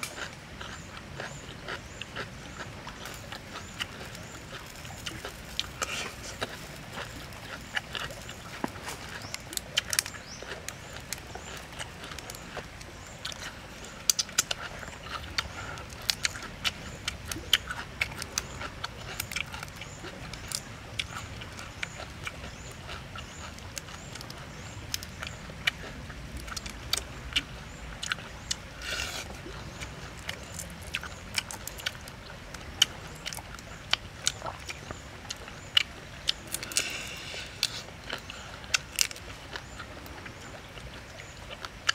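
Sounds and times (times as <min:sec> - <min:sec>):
person chewing and lip-smacking: 0:00.0 - 0:41.9.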